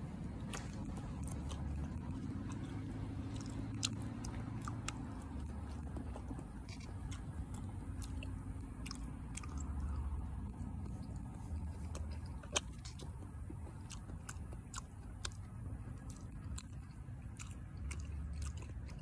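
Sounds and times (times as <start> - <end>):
person biting and chewing: 0.0 - 19.0
wet mouth clicks and smacks: 0.4 - 19.0.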